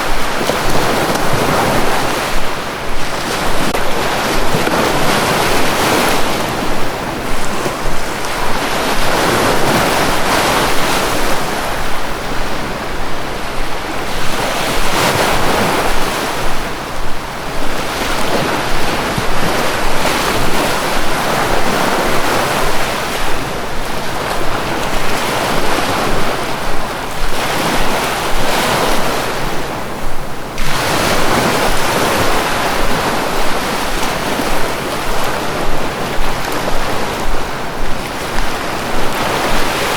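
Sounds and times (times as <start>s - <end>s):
sea waves surging onto shore: 0.0s - 39.9s.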